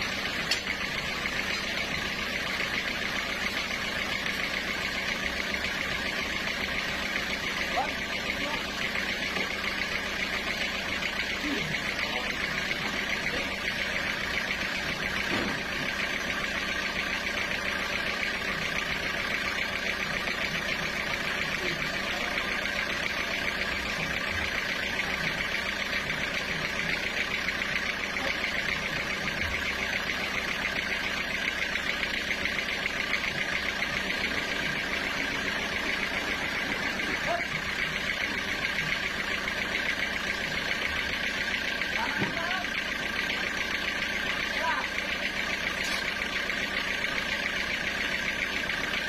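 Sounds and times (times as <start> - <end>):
sawmill machinery drone: 0.0 - 49.0.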